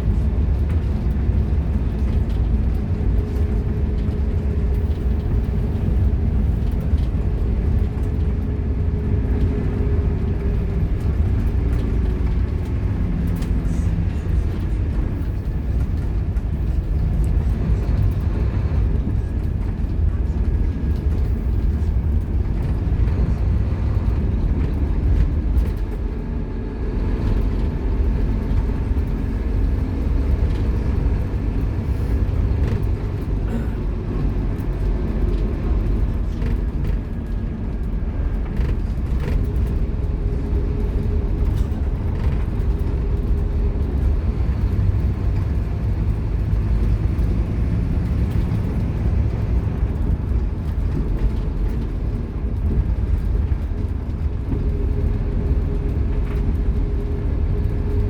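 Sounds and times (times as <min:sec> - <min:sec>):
bus engine low rumble: 0:00.0 - 0:58.0.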